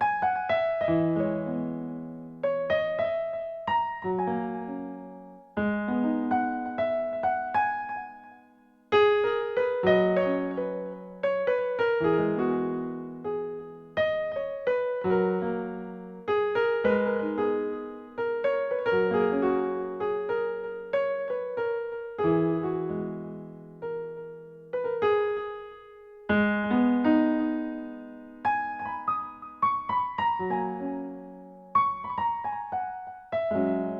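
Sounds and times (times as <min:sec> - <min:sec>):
slow gentle piano melody: 0:00.0 - 0:33.9.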